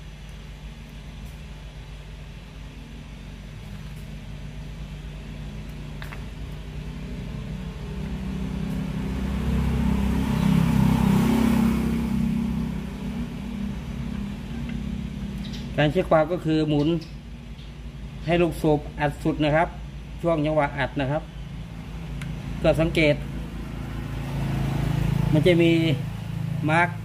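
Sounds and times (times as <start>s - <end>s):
vehicle engine drone: 0.0s - 27.0s.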